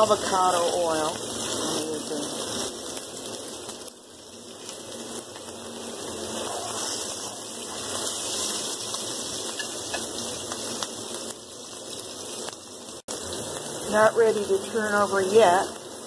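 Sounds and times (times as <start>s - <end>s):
steak sizzling in frying pan: 0.0s - 16.0s.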